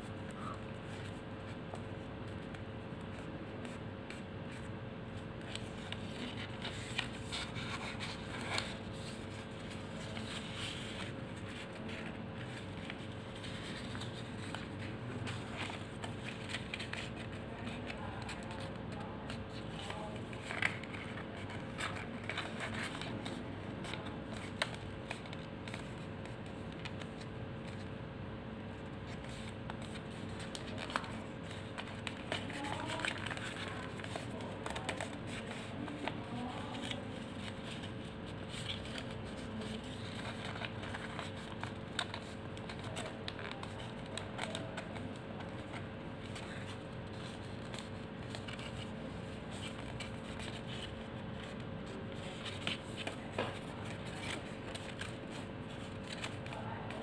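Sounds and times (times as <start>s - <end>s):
paper rustling and crinkling: 0.0s - 28.0s, 28.7s - 57.0s
faint steady hum: 0.0s - 57.0s.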